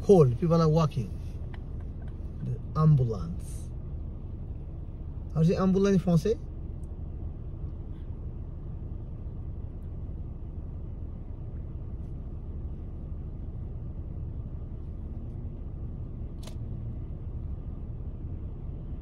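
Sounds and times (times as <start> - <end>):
car engine rumble and road noise: 0.0 - 19.0.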